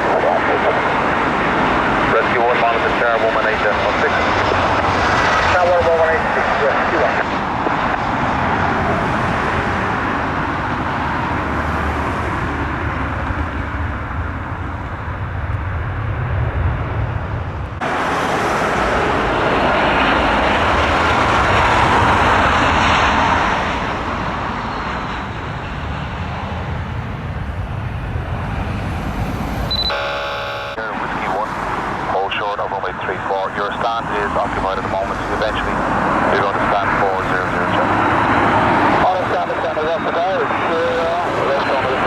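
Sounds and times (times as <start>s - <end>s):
jet engines rushing: 0.0s - 42.0s.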